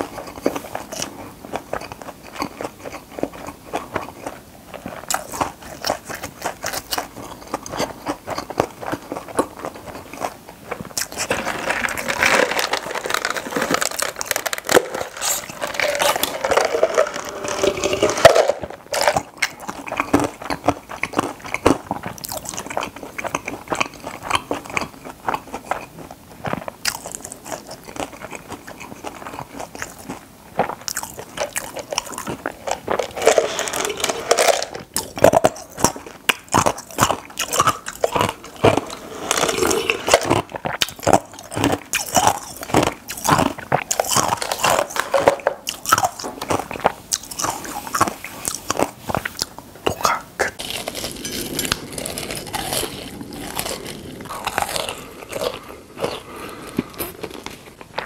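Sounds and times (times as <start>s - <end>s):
crunchy wet chewing: 0.0s - 58.0s.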